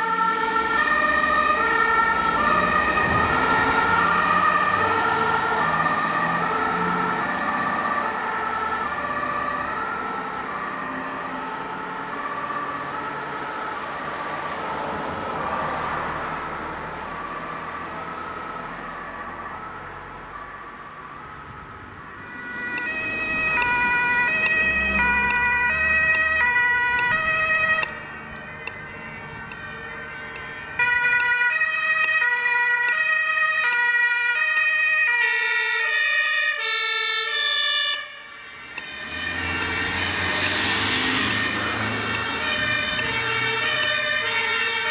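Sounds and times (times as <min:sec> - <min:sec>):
ambulance two-tone siren: 0:00.0 - 0:44.9
two-tone emergency siren: 0:00.0 - 0:44.9.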